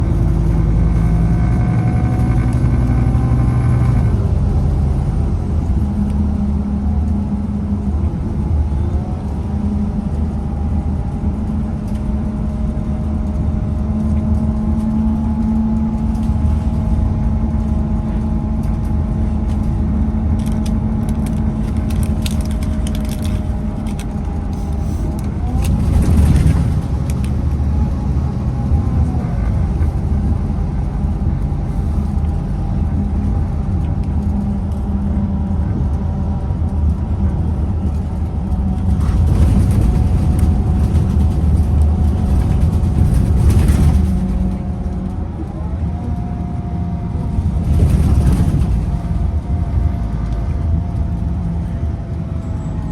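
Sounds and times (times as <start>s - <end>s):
bus engine running: 0.0s - 52.9s.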